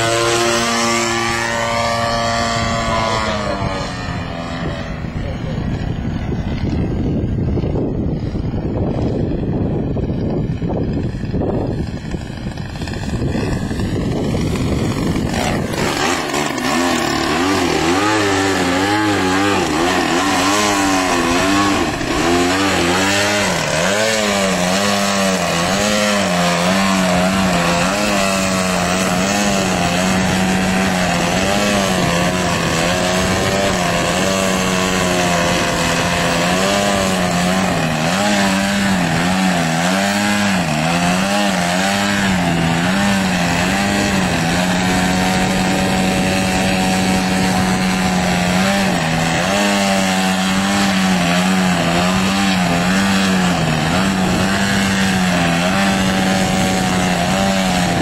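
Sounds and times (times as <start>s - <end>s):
model plane engine revving: 0.0s - 58.0s.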